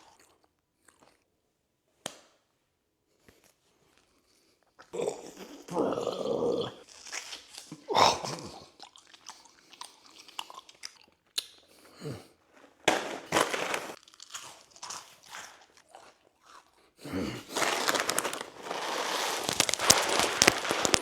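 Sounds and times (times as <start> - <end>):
chewing and crunching food: 0.0 - 1.3, 3.3 - 21.0.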